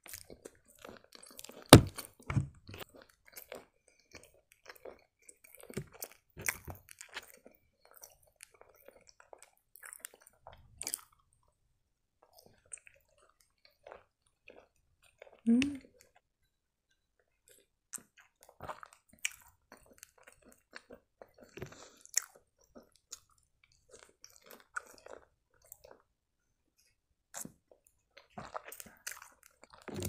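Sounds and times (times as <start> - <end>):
chewing pastry: 0.0 - 30.0.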